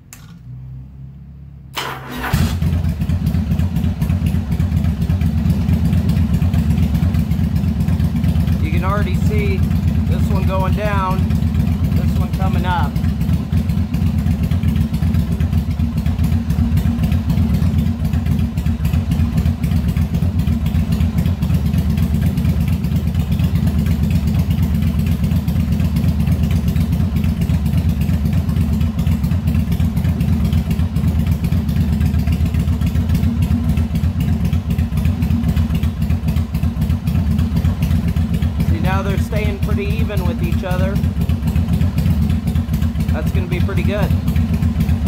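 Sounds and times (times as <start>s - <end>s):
motorcycle engine idling: 1.8s - 45.0s.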